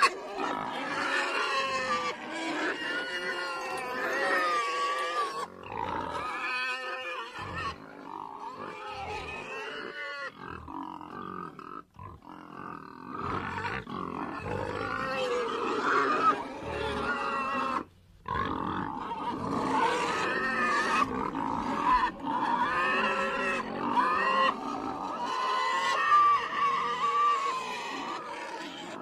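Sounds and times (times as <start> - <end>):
pigs squealing and grunting: 0.0 - 29.0.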